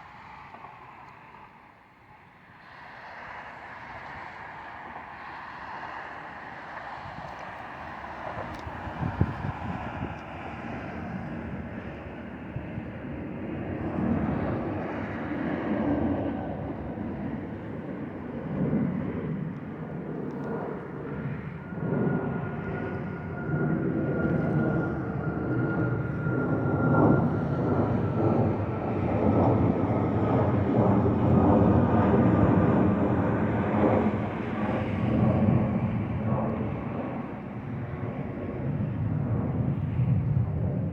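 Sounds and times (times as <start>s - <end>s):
high jet engine whine: 0.0s - 40.9s
jet engine rumble: 0.0s - 40.9s.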